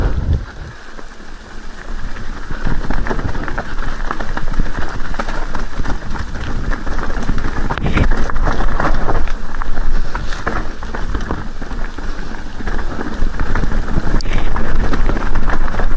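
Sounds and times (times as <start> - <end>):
rain pattering: 0.0 - 15.9.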